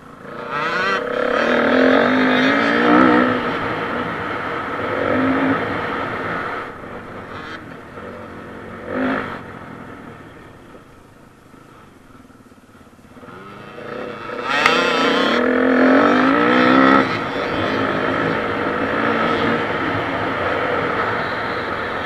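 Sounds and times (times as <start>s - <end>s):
dirt bike engine revving: 0.0s - 10.8s, 13.1s - 22.0s.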